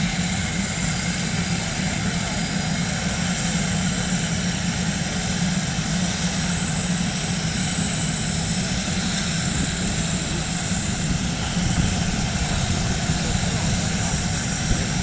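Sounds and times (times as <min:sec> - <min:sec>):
helicopter running: 0:00.0 - 0:15.0.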